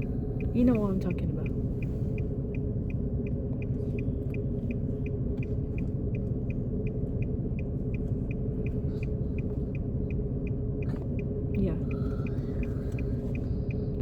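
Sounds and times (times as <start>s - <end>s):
car engine idling rumble: 0.0s - 14.0s.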